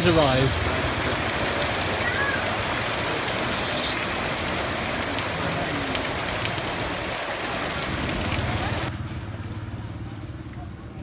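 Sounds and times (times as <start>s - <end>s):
rain hissing: 0.0s - 8.9s.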